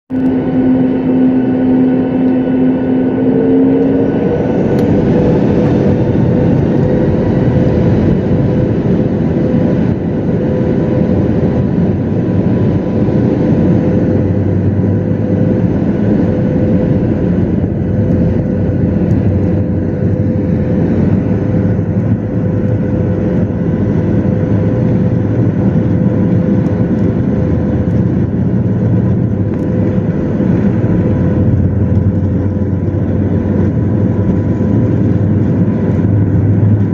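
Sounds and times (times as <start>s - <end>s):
jet engines roaring with whine: 0.1s - 36.9s.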